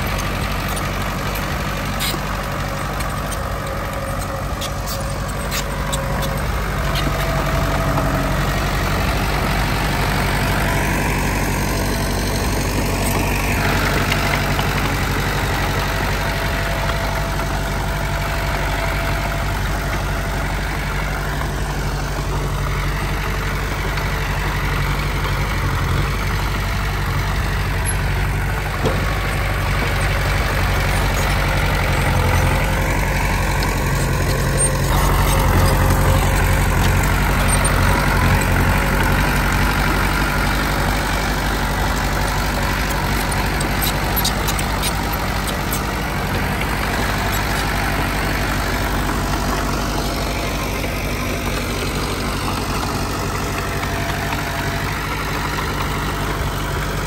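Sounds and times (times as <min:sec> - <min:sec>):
diesel machinery engines running: 0:00.0 - 0:57.0.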